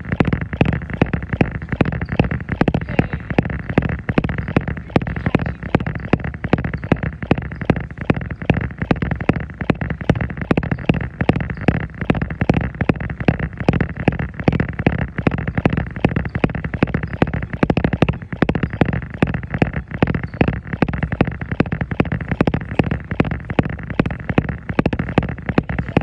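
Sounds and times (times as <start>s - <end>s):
footfalls on a treadmill: 0.0s - 26.0s.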